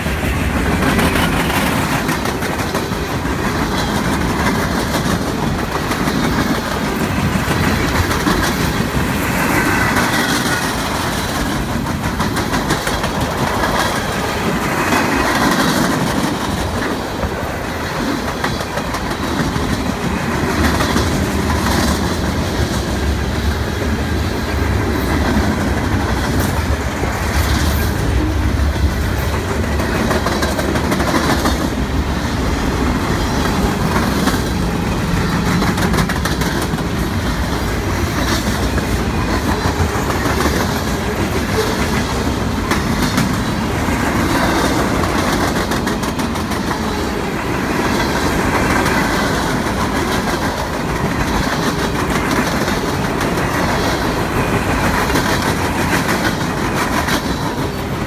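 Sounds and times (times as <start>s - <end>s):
freight train wheels rumbling on rails: 0.0s - 58.0s
wheels clicking on rail joints: 0.0s - 58.0s.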